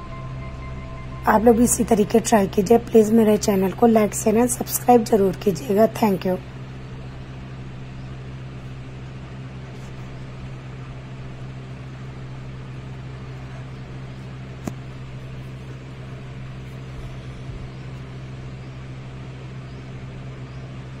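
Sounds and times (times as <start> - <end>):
low hum with hiss: 0.0 - 21.0.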